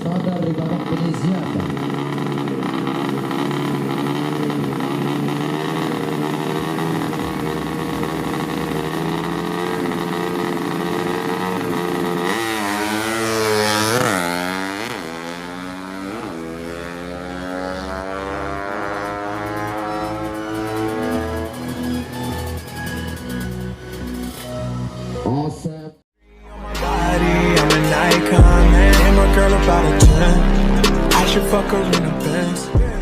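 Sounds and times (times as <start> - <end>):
motorcycle engine revving: 0.0 - 25.2, 26.7 - 33.0.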